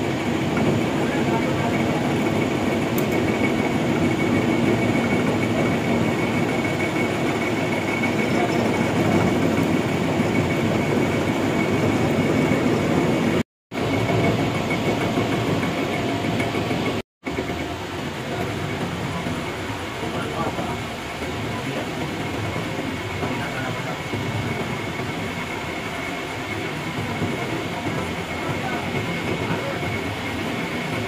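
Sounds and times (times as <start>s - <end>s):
machine running: 0.0s - 31.0s.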